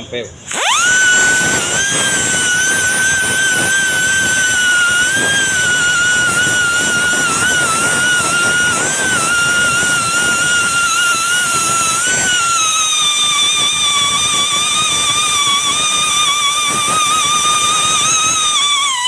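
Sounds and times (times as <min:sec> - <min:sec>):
electric buffing tool whine: 0:00.4 - 0:19.0.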